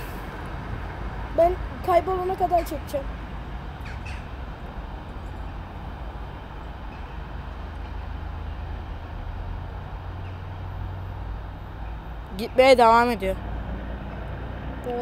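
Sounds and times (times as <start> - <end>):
diesel railcar pulling away: 0.0 - 15.0.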